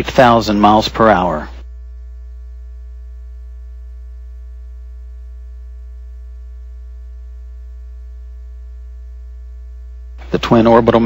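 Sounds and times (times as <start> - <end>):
electrical mains hum: 0.0 - 11.0
faint steady tones: 0.0 - 11.0.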